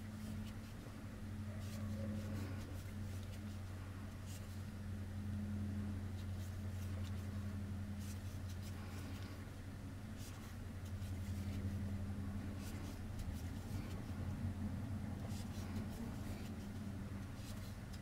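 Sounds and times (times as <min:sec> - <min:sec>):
crochet hook rustling yarn: 0:00.0 - 0:04.7, 0:06.0 - 0:18.0
steady low hum: 0:00.0 - 0:18.0.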